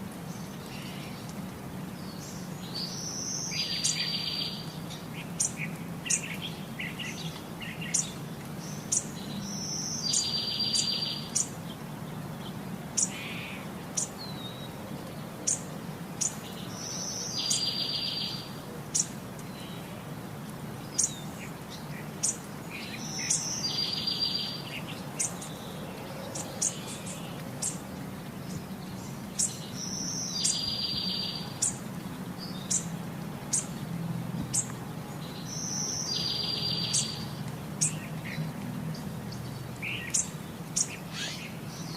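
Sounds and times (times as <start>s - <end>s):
birds chirping: 0.2s - 41.9s.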